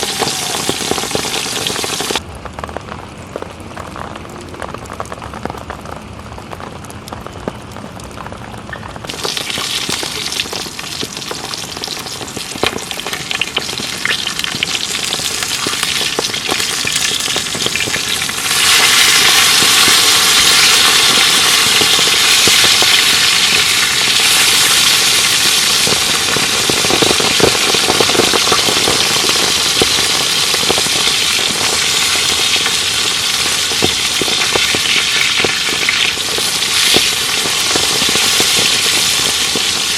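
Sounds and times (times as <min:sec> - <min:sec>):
ribs sizzling in a pan: 0:00.0 - 0:02.2, 0:09.1 - 0:39.9.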